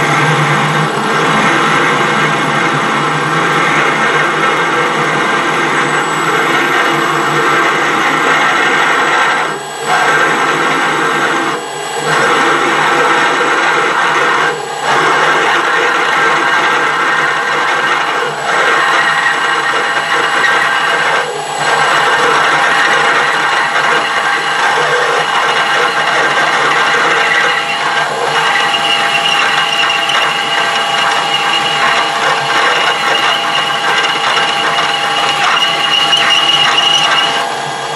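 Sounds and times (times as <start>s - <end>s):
power tool grinding metal: 0.0s - 37.9s.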